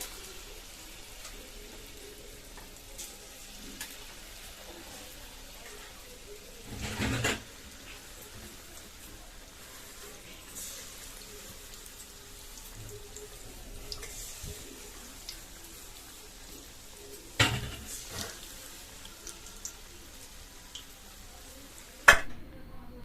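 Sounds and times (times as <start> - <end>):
batter sizzling in hot oil: 0.0 - 22.2.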